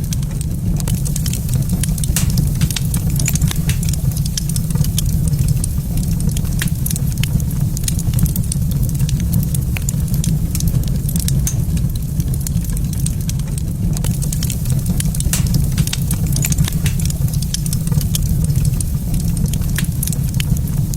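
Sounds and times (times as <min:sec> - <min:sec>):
low fire rumble: 0:00.0 - 0:20.9
wood fire crackling: 0:00.0 - 0:20.9.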